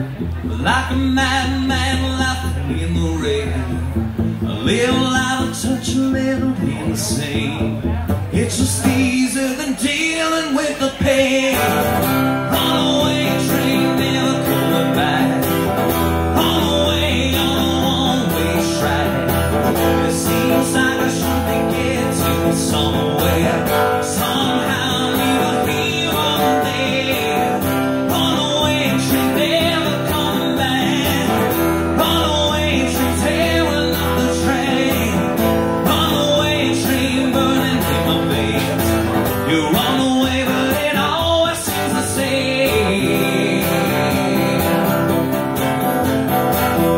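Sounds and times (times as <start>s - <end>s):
acoustic guitar strumming: 0.0s - 46.9s
person singing into a microphone: 0.2s - 46.0s.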